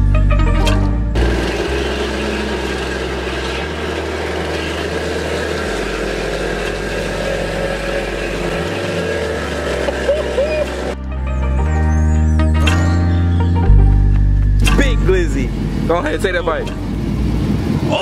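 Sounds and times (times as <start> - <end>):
deep low drone: 0.0 - 17.7
engine and road noise: 0.0 - 18.0.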